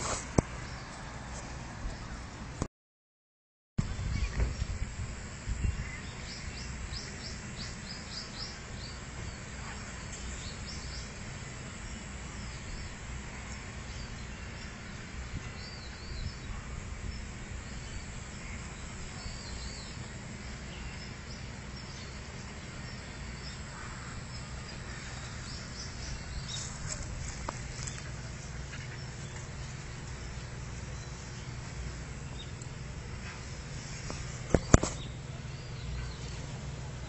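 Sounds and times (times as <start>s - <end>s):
steady low rumble: 3.8s - 37.0s
small birds chirping: 4.0s - 37.0s.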